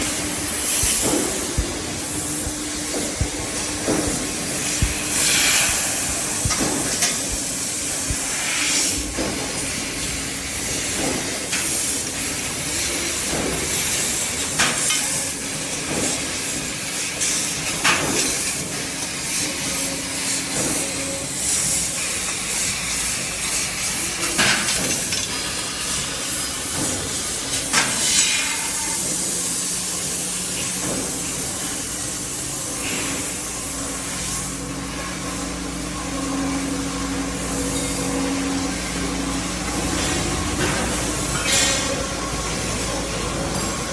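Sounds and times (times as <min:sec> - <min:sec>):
machinery hiss and hum: 0:00.0 - 0:43.9.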